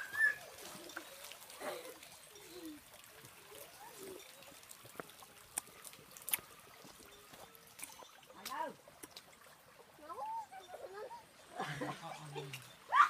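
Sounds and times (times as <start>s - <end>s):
water trickling over rock: 0.0s - 13.0s.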